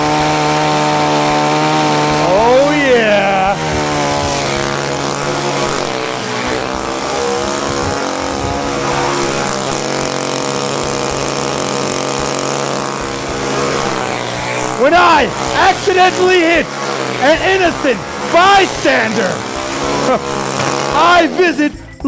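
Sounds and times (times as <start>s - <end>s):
chainsaw engine buzzing: 0.0s - 22.0s.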